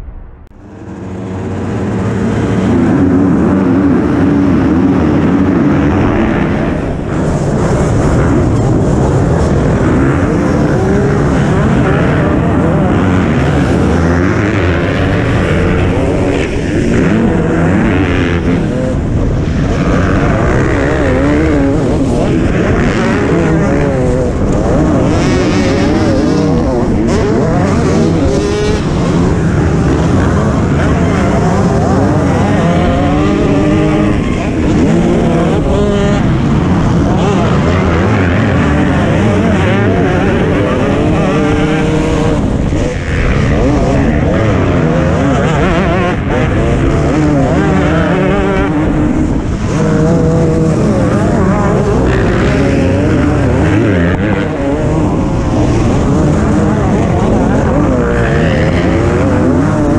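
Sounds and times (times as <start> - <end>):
motocross bike engines racing: 0.0 - 59.9.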